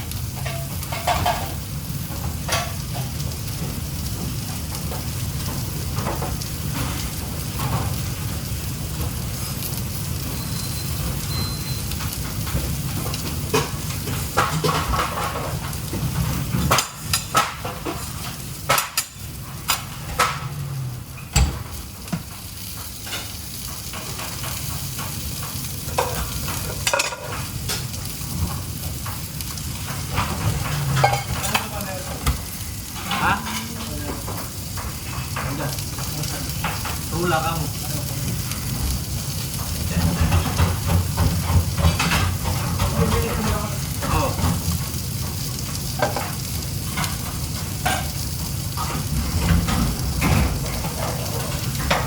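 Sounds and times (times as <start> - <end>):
metal utensils and pans clattering: 0.0 - 8.2, 9.0 - 52.0
food sizzling in frying: 0.0 - 52.0.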